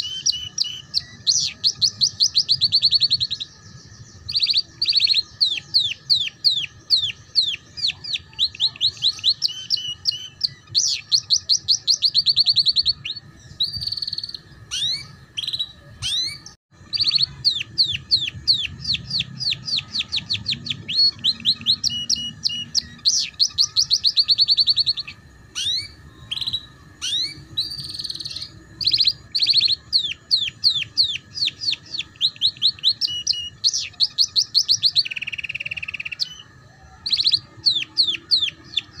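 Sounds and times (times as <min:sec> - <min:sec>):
canary trilling song: 0:00.0 - 0:39.0.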